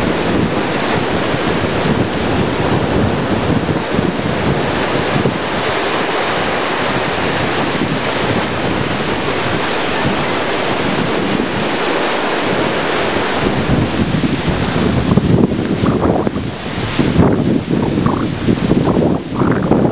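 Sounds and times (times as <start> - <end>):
heavy surf rushing up beach: 0.0 - 19.9
wind buffeting microphone: 0.0 - 19.9.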